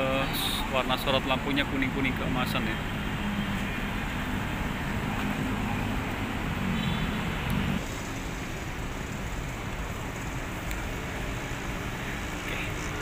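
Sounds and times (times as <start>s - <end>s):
busy city traffic: 0.0s - 13.0s.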